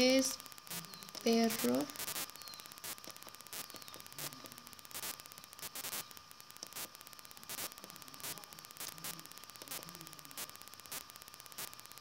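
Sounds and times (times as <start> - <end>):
recording hiss and static: 0.0 - 12.0
sharp clicks: 0.0 - 12.0.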